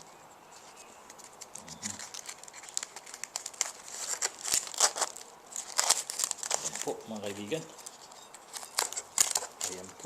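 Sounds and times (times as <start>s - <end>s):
leaf wrapper rustling and crackling: 0.0s - 10.0s.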